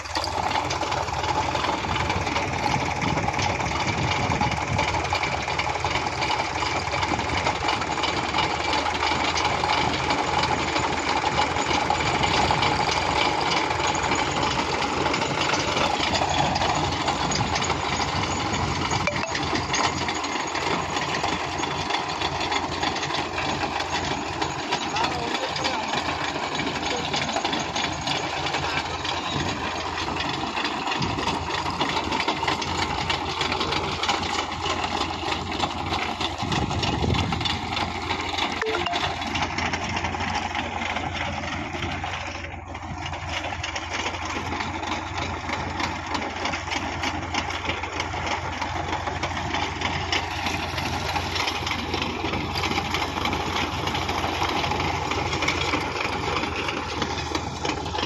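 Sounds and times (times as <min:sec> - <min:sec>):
diesel engine under load: 0:00.0 - 0:58.0
chain clattering through soil: 0:06.4 - 0:58.0.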